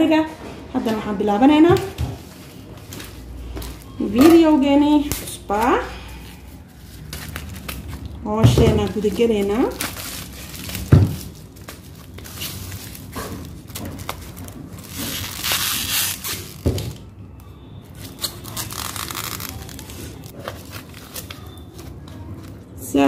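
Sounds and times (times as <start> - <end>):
plastic wrap crinkling: 2.3 - 22.8.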